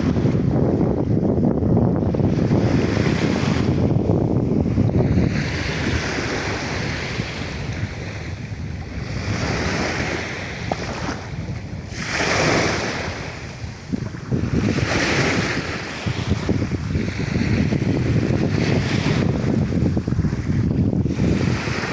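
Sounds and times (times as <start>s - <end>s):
wind rumbling on microphone: 0.0s - 21.9s
sea waves washing in: 2.1s - 21.9s.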